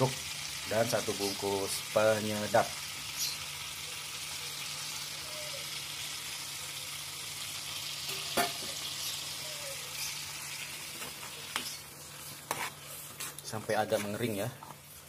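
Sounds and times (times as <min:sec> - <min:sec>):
paste sizzling in oil: 0:00.0 - 0:15.0.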